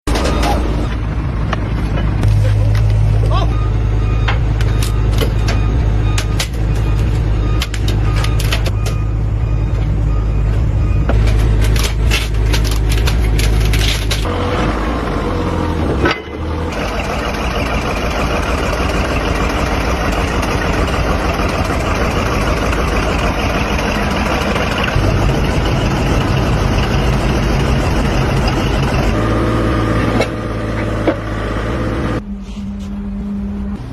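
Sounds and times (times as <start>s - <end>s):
bulldozer diesel engine running: 0.1s - 32.3s.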